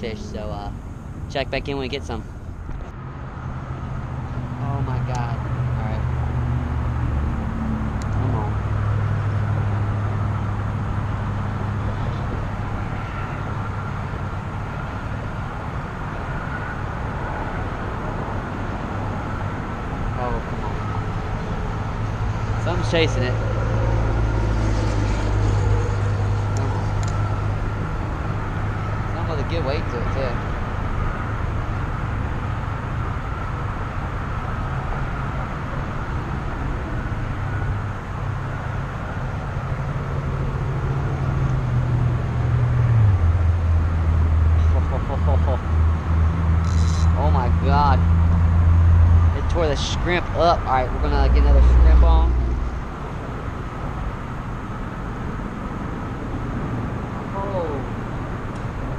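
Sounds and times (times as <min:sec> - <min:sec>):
road traffic rumble: 0:00.0 - 0:58.9.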